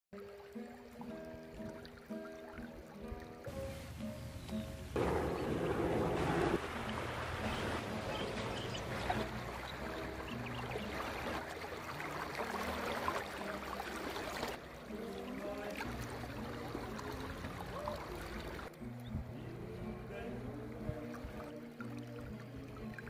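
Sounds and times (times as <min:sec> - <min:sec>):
background music with simple melody: 0:00.2 - 0:23.0
flowing river water: 0:00.2 - 0:23.0.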